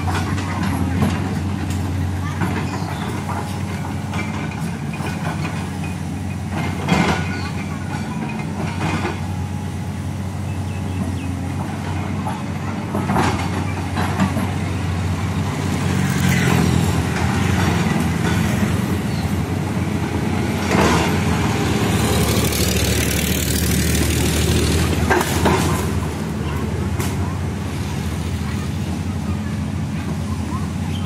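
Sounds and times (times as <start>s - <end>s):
excavator diesel engine: 0.0s - 31.0s
road vehicles passing: 0.0s - 31.0s.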